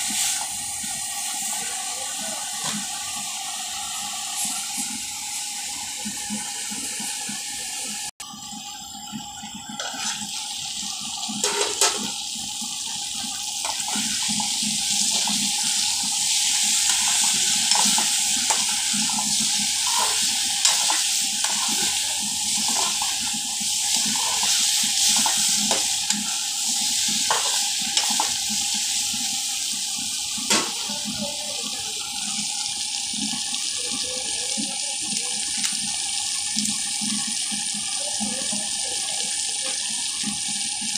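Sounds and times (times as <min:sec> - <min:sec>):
vegetables sizzling in hot oil: 0:00.0 - 0:40.9.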